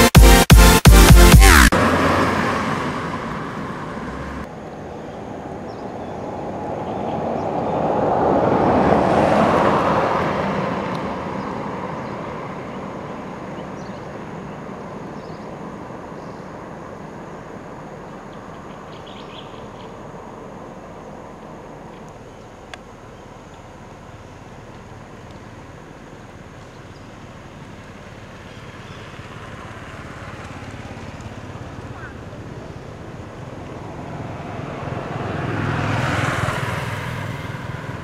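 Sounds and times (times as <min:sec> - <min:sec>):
vehicle passing by: 0:01.7 - 0:38.0.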